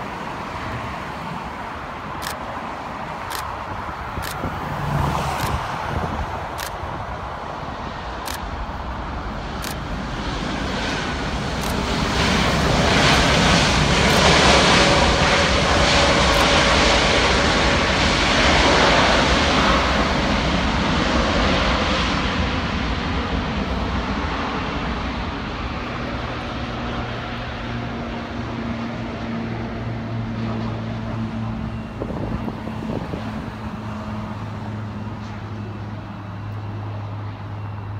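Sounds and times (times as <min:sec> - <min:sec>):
jet engine rumble and whine: 0:00.0 - 0:37.9.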